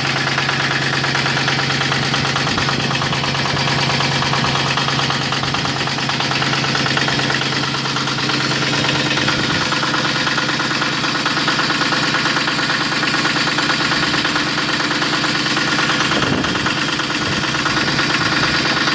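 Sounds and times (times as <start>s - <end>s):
diesel generator running: 0.0s - 18.9s.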